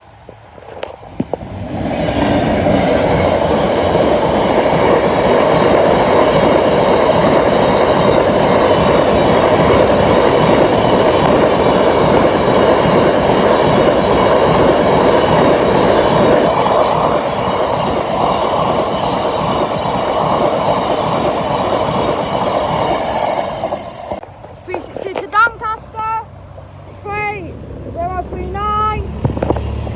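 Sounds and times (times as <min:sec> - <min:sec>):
freight train wheels on rail: 0:00.0 - 0:29.9.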